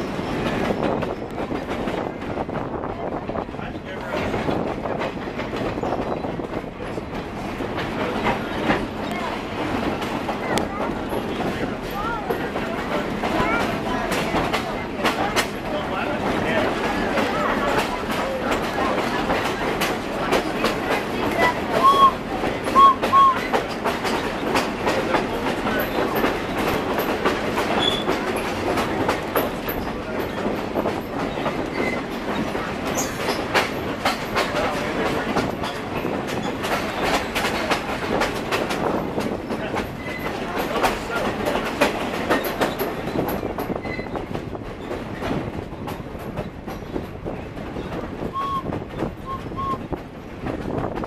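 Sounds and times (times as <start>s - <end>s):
train rumbling: 0.0s - 51.0s
wheels clattering over rails: 0.0s - 51.0s.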